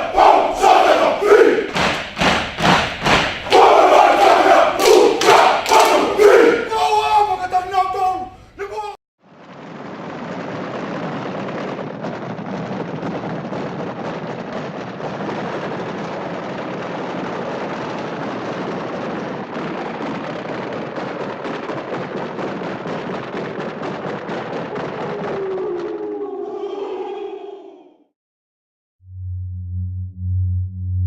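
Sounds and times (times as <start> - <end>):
battle din with rapid crackles: 0.0 - 7.2, 9.3 - 27.2.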